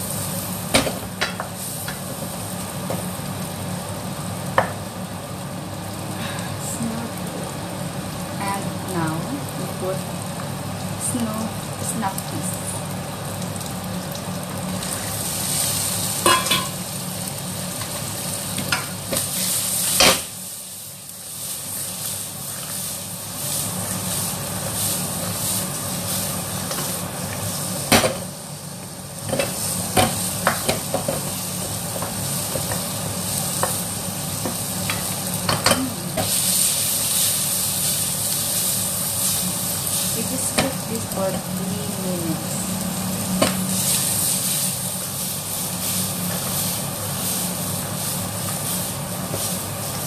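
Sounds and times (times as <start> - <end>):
food sizzling in a wok: 0.0 - 50.0
steady low hum: 0.0 - 50.0.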